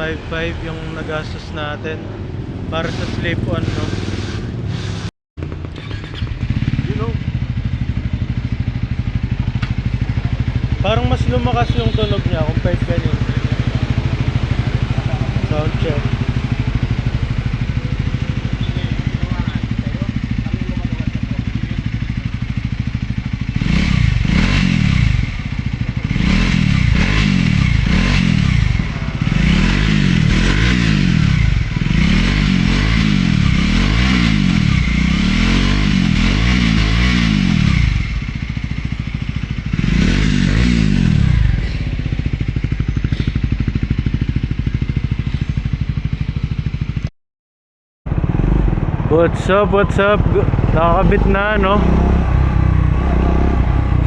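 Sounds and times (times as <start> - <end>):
motorcycle engine revving: 0.0 - 47.1, 48.1 - 54.0
motorcycle engine idling: 5.4 - 47.1, 48.1 - 54.0.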